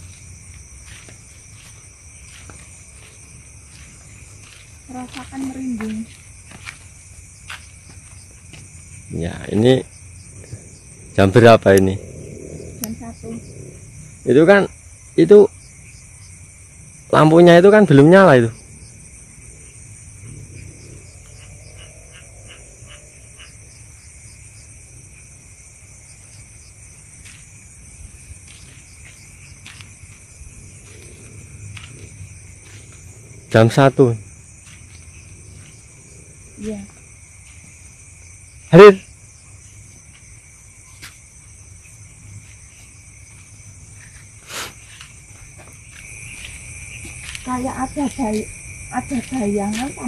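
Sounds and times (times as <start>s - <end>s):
crickets chirping: 0.0s - 50.0s
insects trilling: 0.0s - 50.0s.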